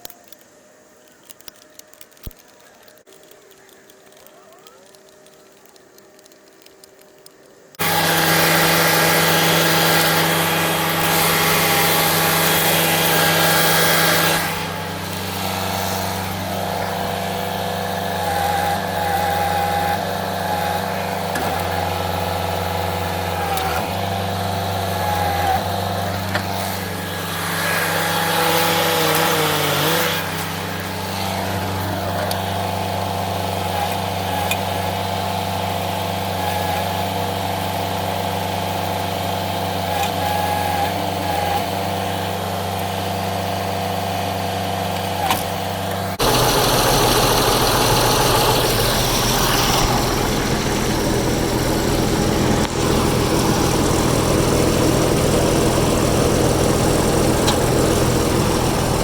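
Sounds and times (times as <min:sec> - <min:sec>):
machine whining tones: 0:00.0 - 0:59.0
heavy machine engine running: 0:07.6 - 0:59.0.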